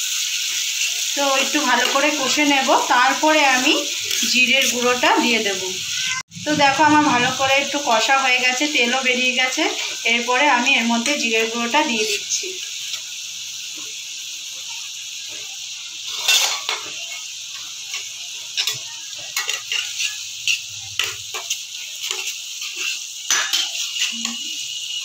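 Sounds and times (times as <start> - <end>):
spice paste sizzling in oil: 0.0 - 25.0
metal spatula scraping a pan: 0.3 - 8.2, 8.9 - 13.1, 16.0 - 24.8.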